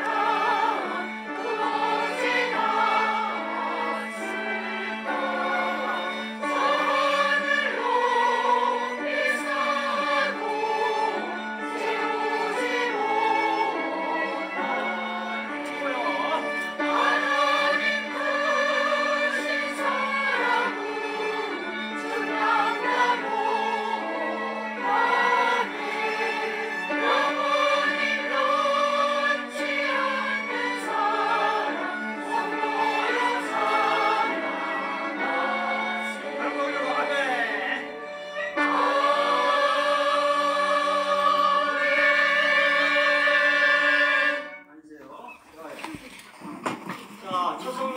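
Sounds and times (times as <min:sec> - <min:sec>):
choir singing a hymn: 0:00.0 - 0:44.6.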